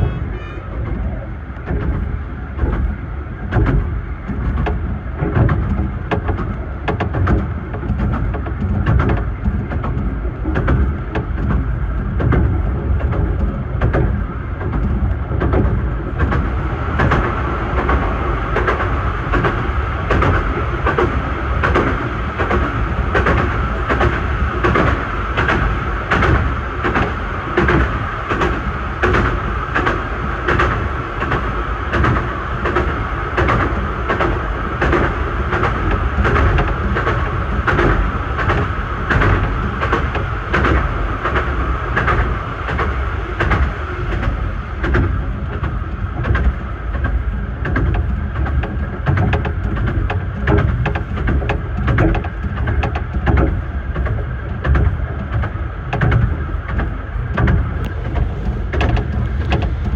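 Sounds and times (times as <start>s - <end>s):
rumble of wheels on rail: 0.0s - 59.9s
wheels clicking over rail joints: 0.0s - 59.9s.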